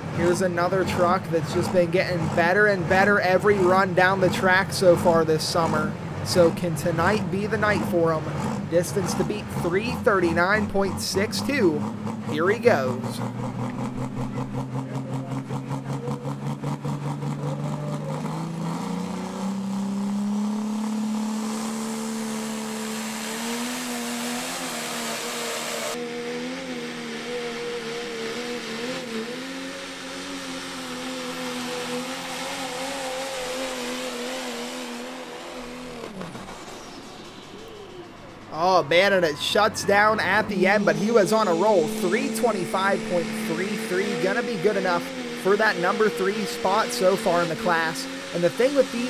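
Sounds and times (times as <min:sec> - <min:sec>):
diesel truck engine under load: 0:00.0 - 0:49.0.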